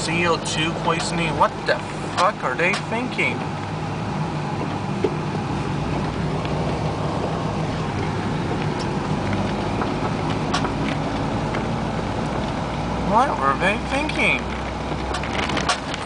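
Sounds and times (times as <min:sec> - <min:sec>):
car engine hum from inside: 0:00.0 - 0:16.0.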